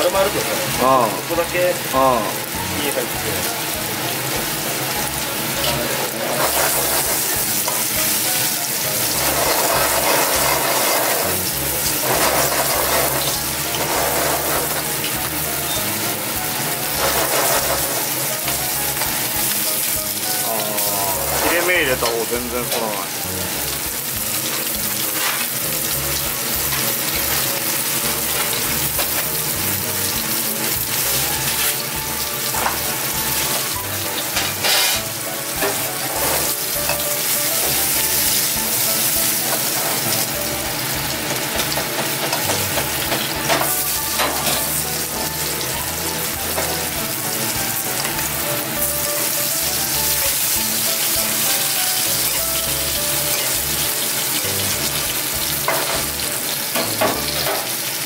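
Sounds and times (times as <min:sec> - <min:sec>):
fish sizzling in frying pan: 0:00.0 - 0:58.0.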